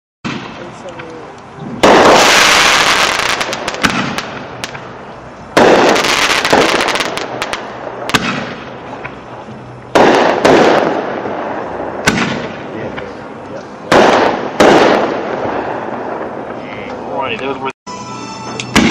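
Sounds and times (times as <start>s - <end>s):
firework shells booming: 0.2s - 17.0s.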